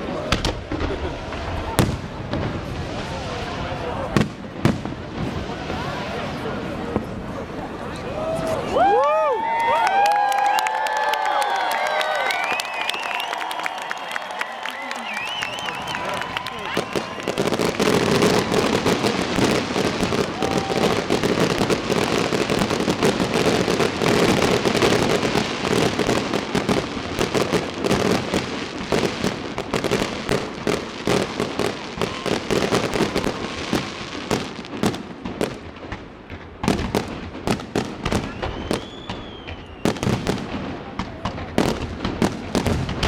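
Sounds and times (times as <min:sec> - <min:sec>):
fireworks bangs and crackling: 0:00.0 - 0:43.0.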